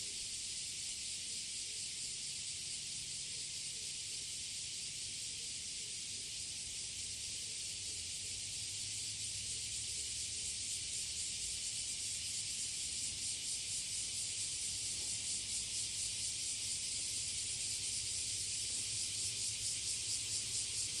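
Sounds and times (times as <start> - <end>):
cicadas singing: 0.0 - 21.0.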